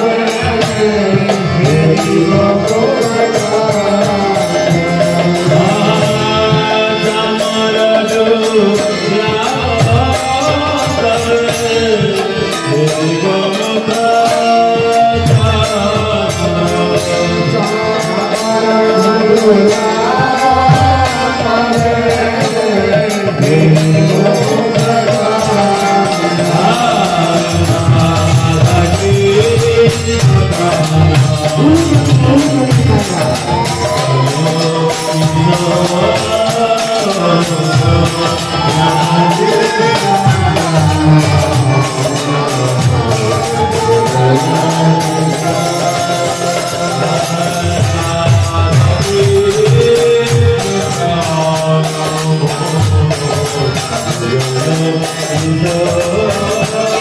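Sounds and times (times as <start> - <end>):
harmonium: 0.0 - 57.0
percussion beat: 0.0 - 57.0
person singing devotional song: 0.0 - 57.0.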